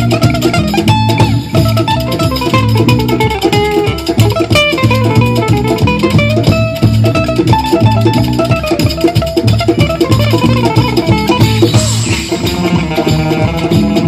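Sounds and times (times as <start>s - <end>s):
fast plucked guitar music: 0.0s - 14.0s.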